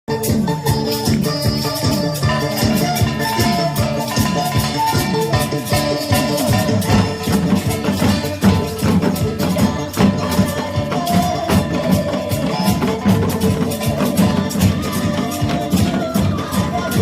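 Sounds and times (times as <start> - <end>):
music with percussion beat: 0.1 - 17.0.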